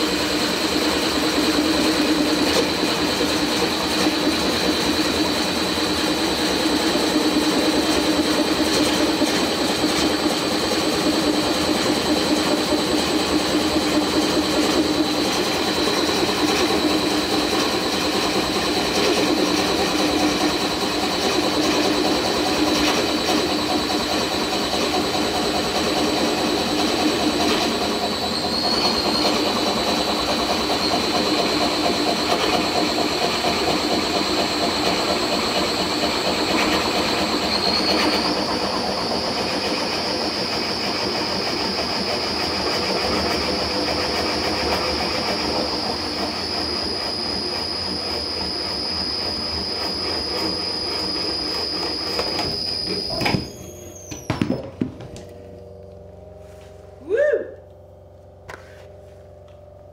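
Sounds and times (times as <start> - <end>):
lathe running: 0.0 - 57.0
high-pitched whine: 0.0 - 59.9.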